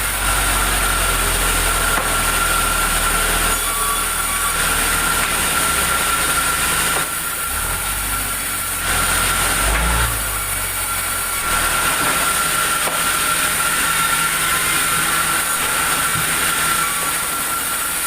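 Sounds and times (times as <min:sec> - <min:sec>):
drive motor rumble: 0:00.0 - 0:18.0
sawmill saw cutting log: 0:00.0 - 0:18.0.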